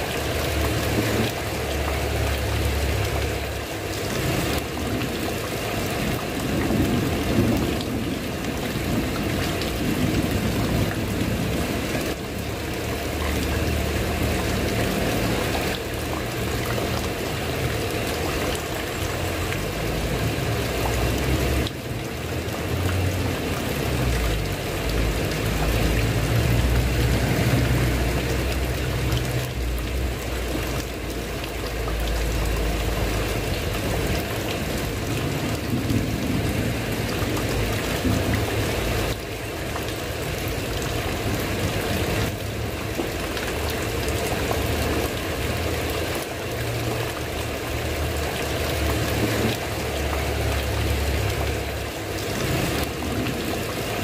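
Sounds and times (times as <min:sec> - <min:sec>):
heavy rain pouring off roof: 0:00.0 - 0:54.0.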